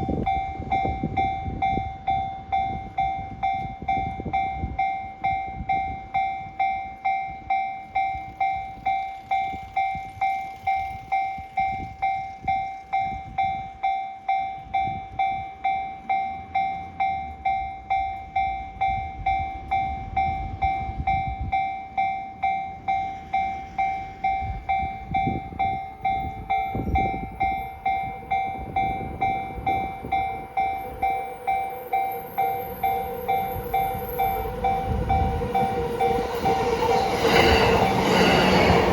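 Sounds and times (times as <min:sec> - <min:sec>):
level-crossing warning bell: 0:00.0 - 0:38.9
train rumble: 0:00.0 - 0:38.9.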